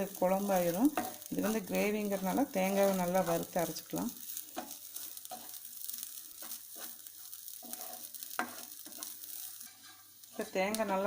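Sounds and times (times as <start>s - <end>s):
coconut sizzling in pan: 0.0s - 11.0s
spatula scraping and stirring: 0.0s - 11.0s.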